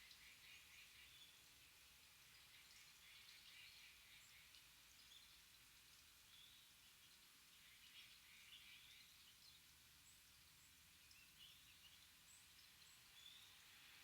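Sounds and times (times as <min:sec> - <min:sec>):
low forest hiss: 0:00.0 - 0:14.0.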